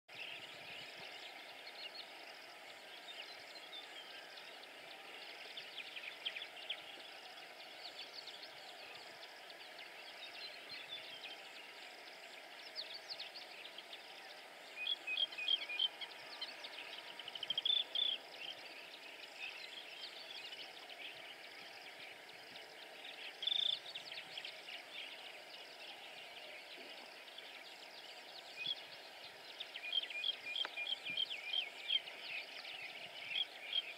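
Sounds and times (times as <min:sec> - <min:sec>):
faint steady hiss: 0:00.1 - 0:33.9
small birds chirping: 0:00.2 - 0:33.9.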